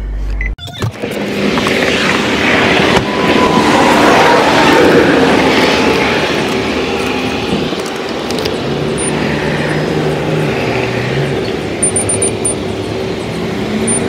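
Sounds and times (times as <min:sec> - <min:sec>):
vehicle passing close by: 0:01.1 - 0:14.0.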